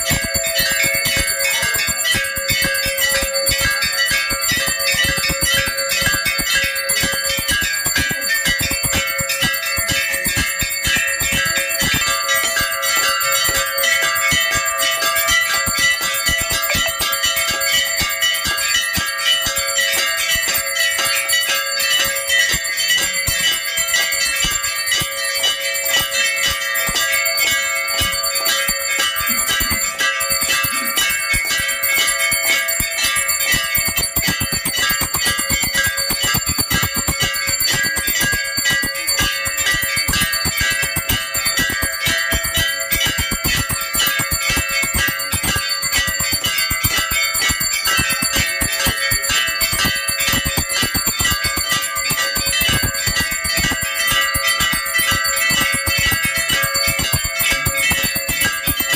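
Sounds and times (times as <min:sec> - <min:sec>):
temple bells ringing: 0:00.0 - 0:58.9.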